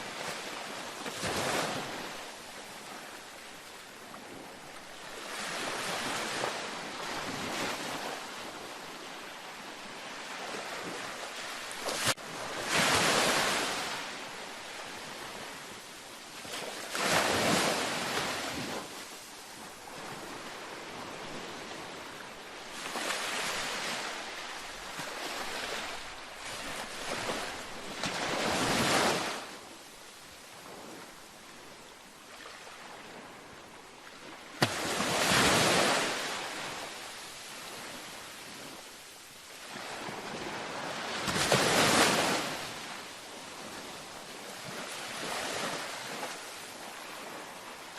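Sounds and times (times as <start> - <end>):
gentle waves breaking on beach: 0.0 - 47.9.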